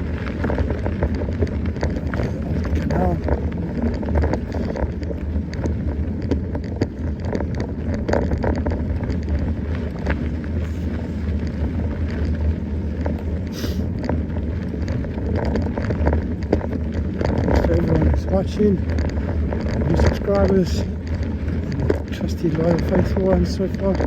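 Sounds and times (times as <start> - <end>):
bike clicks and rattles: 0.0 - 24.0
bike tyre noise: 0.0 - 24.0
wind on microphone: 0.0 - 24.0.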